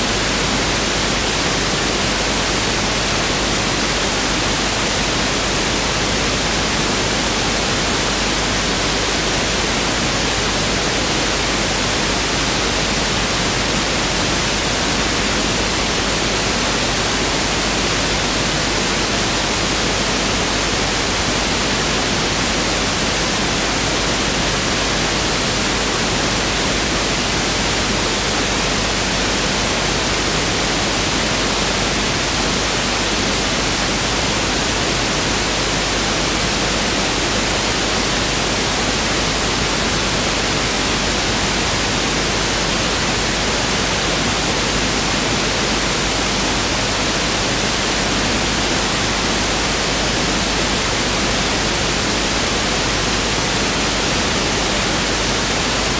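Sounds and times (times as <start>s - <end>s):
pink noise hiss: 0.0s - 55.9s.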